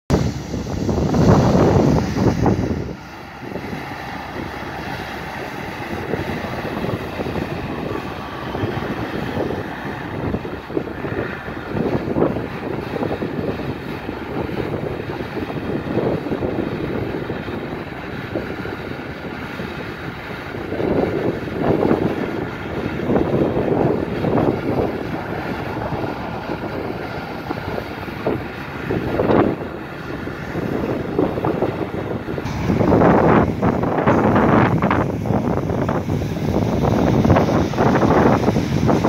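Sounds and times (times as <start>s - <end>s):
diesel engines: 0.0s - 39.0s
rotary brushes sweeping road: 0.1s - 39.0s.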